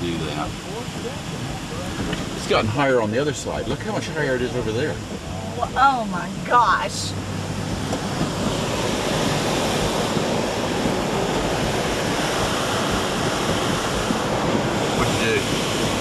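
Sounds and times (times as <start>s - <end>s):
floodwater rushing and churning: 0.0s - 16.0s.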